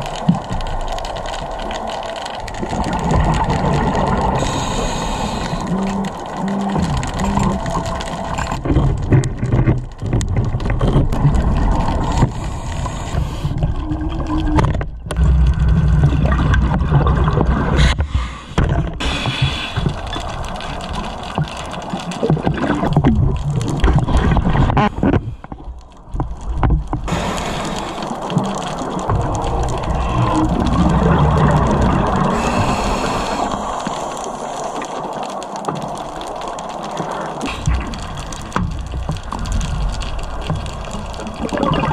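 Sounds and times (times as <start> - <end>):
regulator exhaust bubbles gurgling: 2.4 - 18.0, 18.6 - 34.8, 37.4 - 41.9.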